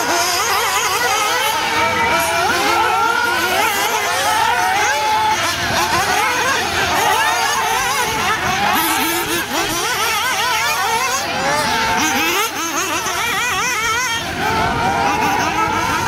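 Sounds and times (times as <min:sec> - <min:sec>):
rc car engines revving: 0:00.0 - 0:16.0.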